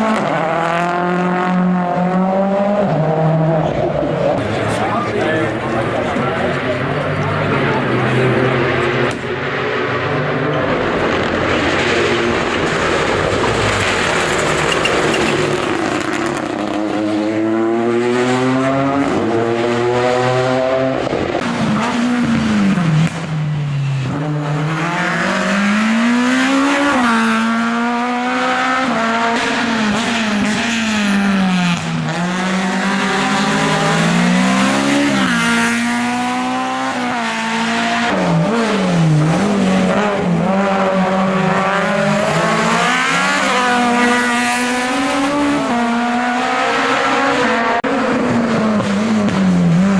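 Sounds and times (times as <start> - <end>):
race car engine at full throttle: 0.0 - 49.9.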